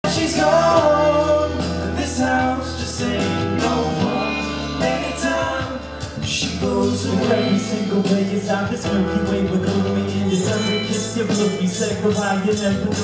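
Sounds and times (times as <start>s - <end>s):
sung bass line: 0.0s - 13.0s
vocal group singing harmony: 0.0s - 13.0s.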